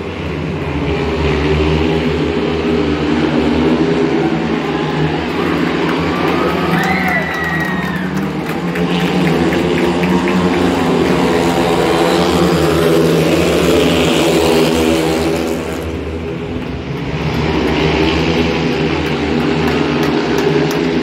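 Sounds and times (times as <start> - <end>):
racing motorcycles engines roaring: 0.0 - 21.0.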